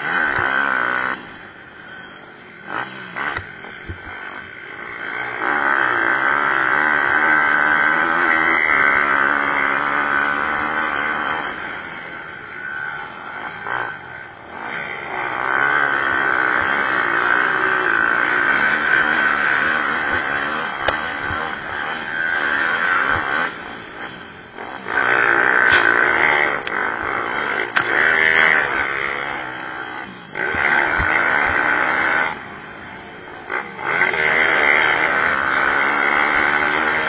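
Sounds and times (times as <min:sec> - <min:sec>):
pit bike engines revving: 0:00.0 - 0:37.0.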